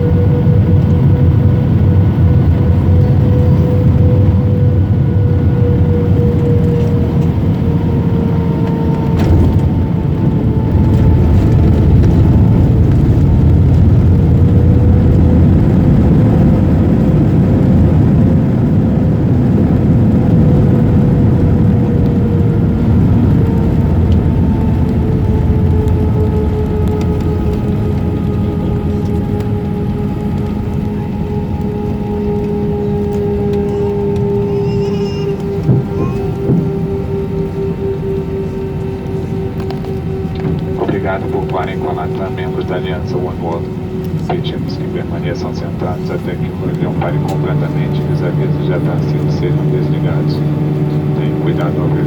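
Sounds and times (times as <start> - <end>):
aircraft cabin engine rumble: 0.0 - 52.0
engine whine: 0.0 - 52.0.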